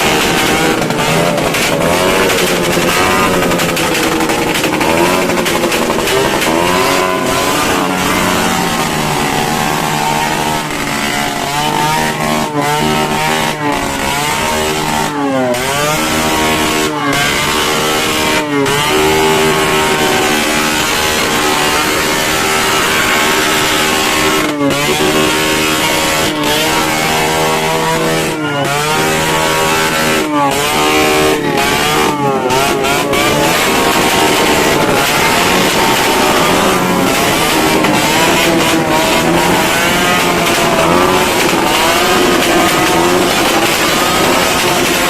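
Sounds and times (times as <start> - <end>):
motor engine revving: 0.0 - 45.0.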